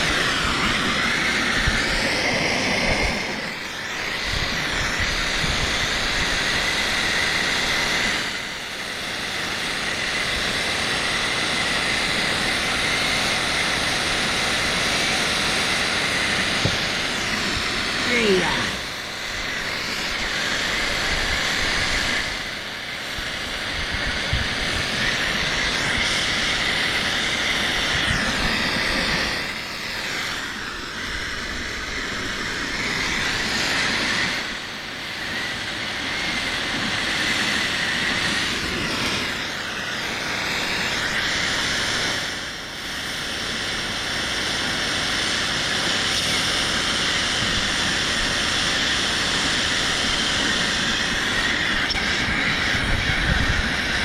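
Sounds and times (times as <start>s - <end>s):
brazing torch hissing: 0.0s - 54.0s.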